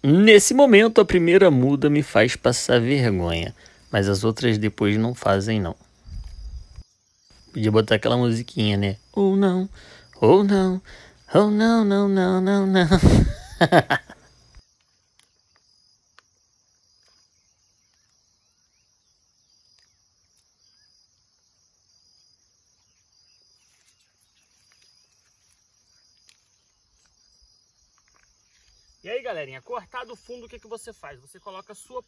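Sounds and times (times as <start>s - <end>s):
insects chirring: 0.0s - 32.0s
short insect chirp: 0.0s - 32.0s.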